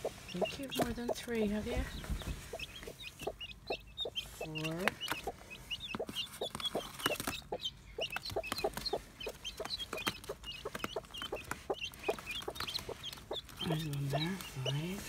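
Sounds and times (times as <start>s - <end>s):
chicks peeping: 0.0s - 15.0s
hen clucking: 0.0s - 15.0s.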